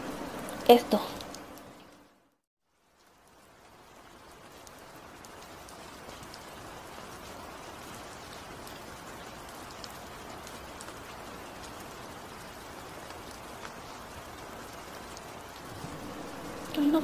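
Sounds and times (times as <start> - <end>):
steady rain falling: 0.0 - 17.0
raindrop ticks: 0.3 - 2.0, 2.7 - 17.0.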